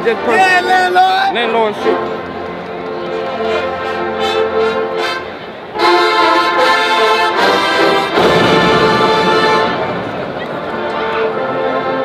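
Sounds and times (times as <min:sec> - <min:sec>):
brass band music: 0:00.0 - 0:12.0.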